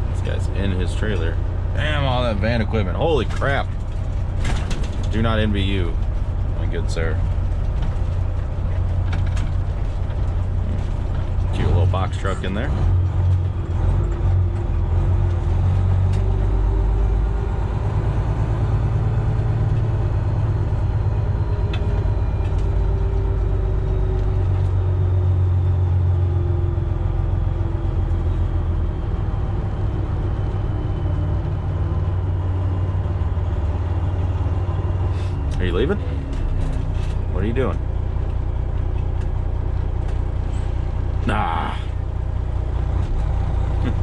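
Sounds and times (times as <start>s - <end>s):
diesel truck engine rumbling: 0.0s - 44.0s.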